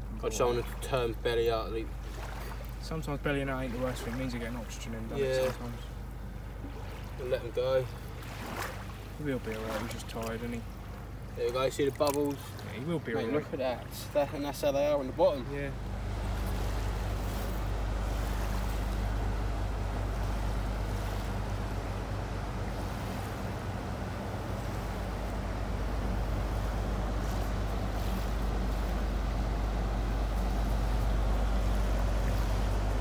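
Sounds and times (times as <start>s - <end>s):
ferry engine drone: 0.0s - 33.0s.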